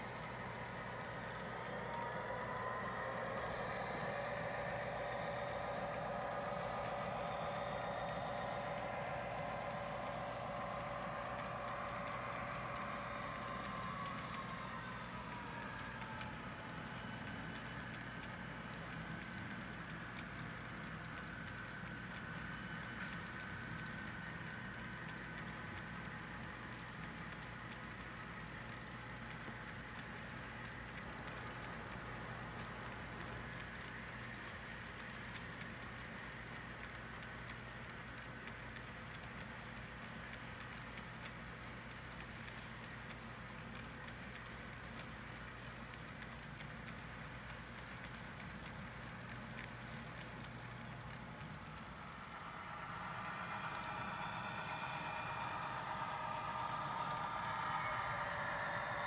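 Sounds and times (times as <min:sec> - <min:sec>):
model train running hum: 0:00.0 - 0:59.0.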